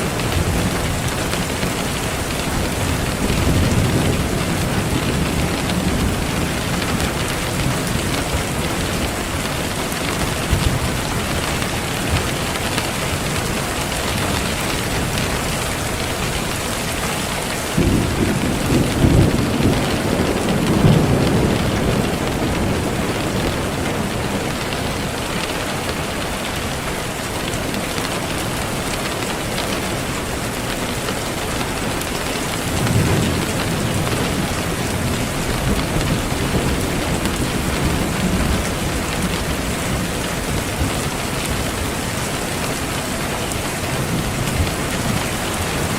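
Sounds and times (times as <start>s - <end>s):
heavy rain falling: 0.0s - 45.9s
thunder rumbling: 0.0s - 45.9s.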